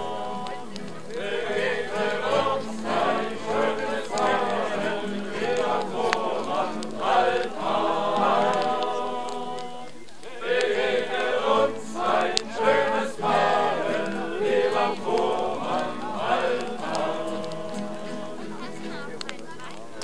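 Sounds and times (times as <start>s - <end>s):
group singing in unison: 0.0s - 19.1s.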